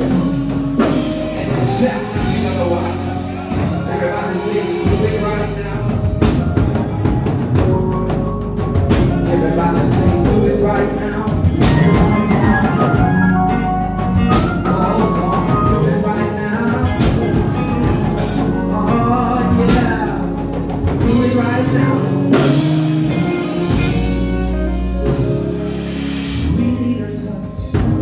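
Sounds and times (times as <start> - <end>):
band playing: 0.0 - 28.0
drum kit beat: 0.0 - 28.0.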